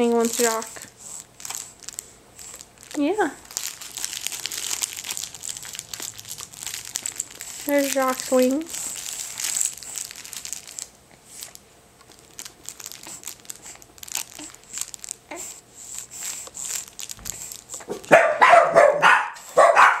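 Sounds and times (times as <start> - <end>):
crinkly fabric toy crackling: 0.0 - 18.1.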